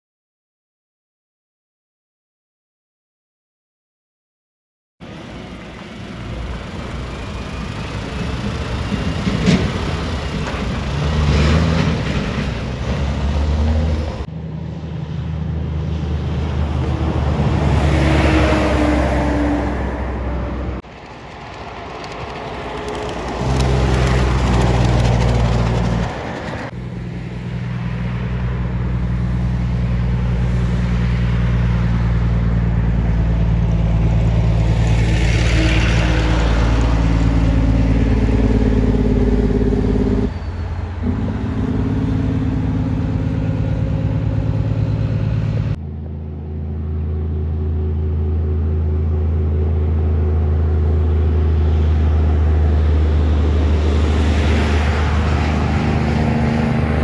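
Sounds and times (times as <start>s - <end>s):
diesel truck engines running: 5.0s - 57.0s
truck passing by: 5.0s - 57.0s.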